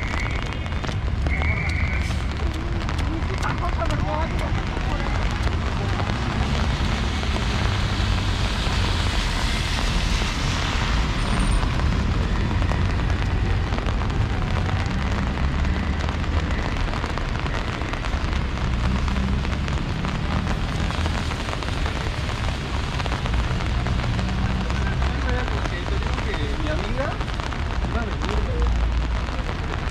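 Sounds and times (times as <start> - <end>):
rain hissing: 0.0 - 29.9.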